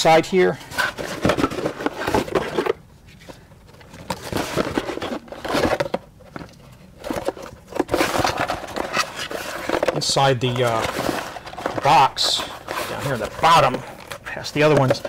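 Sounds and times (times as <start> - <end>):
cardboard box rustling and scraping: 0.7 - 3.3, 4.0 - 15.0.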